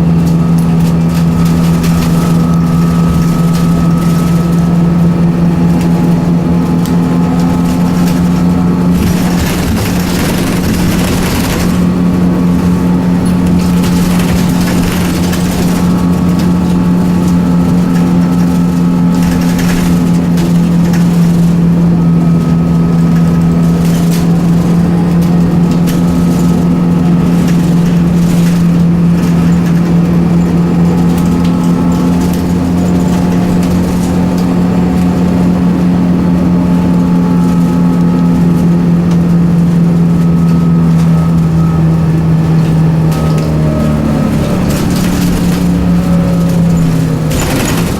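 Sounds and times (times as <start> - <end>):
bus engine humming: 0.0 - 47.9.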